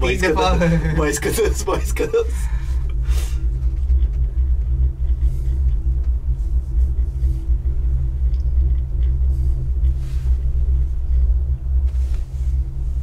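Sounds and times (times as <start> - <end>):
faint steady hum: 0.0 - 13.0
vehicle rumble: 0.0 - 13.0.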